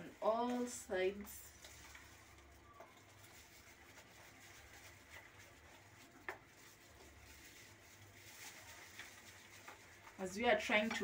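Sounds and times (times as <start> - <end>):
wooden spoon stirring batter: 0.0 - 11.0.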